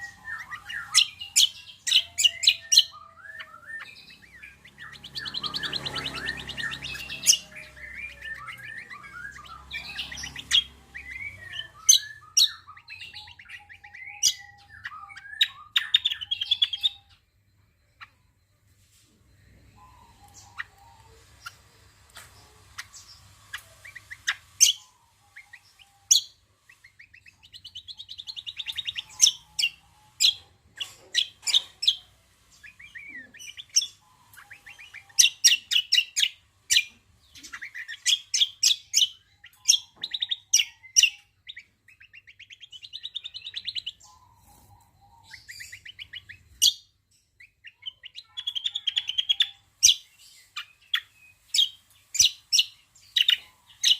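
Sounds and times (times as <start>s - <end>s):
bird singing rattling trills: 0.0s - 18.4s, 19.4s - 53.9s.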